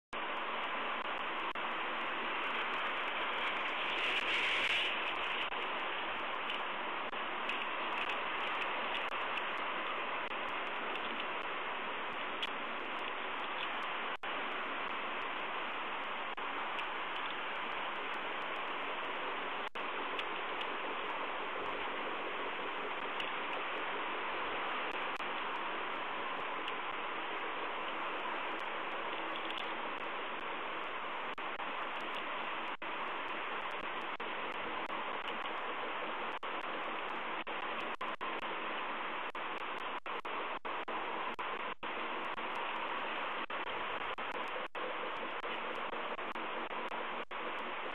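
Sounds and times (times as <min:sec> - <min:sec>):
steady hiss with faint ticks: 0:00.2 - 0:47.9.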